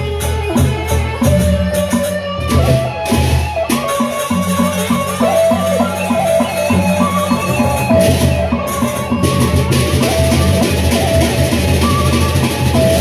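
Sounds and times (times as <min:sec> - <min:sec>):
bamboo flute melody: 0:00.0 - 0:13.0
drum strokes: 0:00.0 - 0:13.0.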